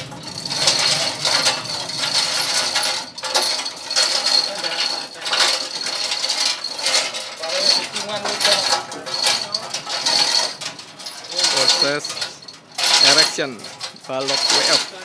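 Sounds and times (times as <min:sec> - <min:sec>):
chain rattling through hoist: 0:00.0 - 0:15.0.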